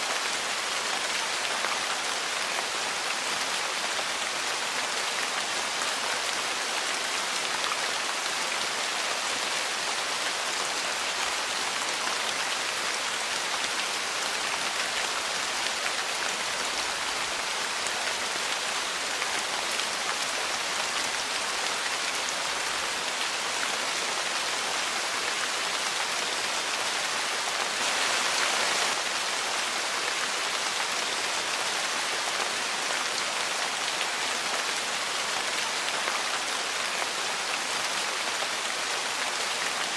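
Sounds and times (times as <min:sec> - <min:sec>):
rain on a porch: 0:00.0 - 0:39.9.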